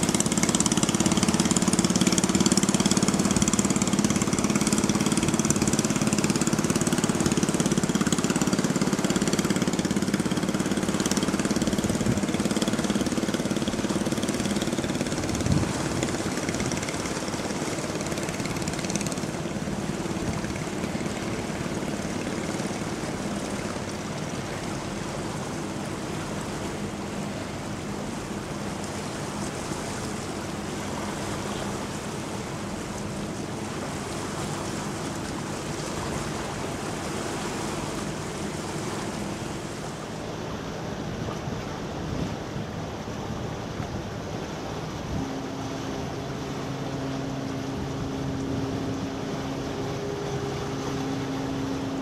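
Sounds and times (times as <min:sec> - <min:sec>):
rushing water: 0:00.0 - 0:52.0
ship engine hum: 0:00.0 - 0:52.0.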